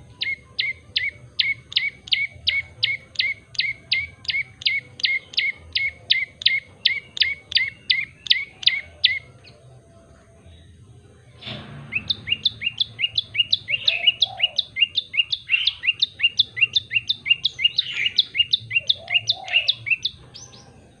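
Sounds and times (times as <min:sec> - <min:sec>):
bird singing sharp repeated notes: 0:00.0 - 0:09.6, 0:10.6 - 0:21.0.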